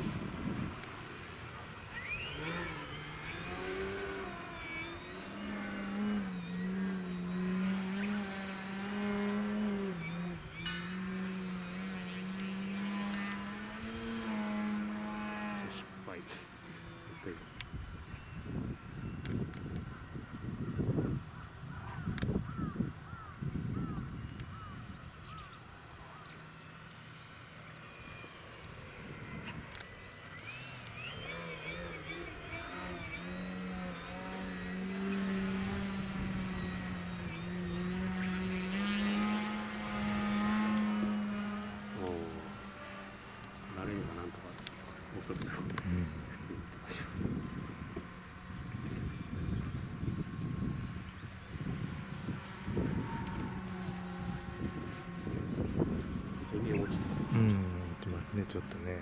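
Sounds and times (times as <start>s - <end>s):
wind rumble on microphone: 0.0s - 15.8s, 16.8s - 26.2s, 28.3s - 59.0s
model airplane motor drone: 0.0s - 59.0s
bird calling: 0.5s - 49.8s.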